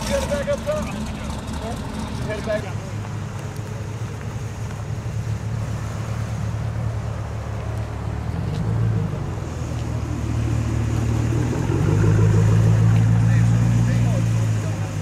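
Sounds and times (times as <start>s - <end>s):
car rolling past: 0.0s - 15.0s
vee eight engine rumble: 0.0s - 15.0s.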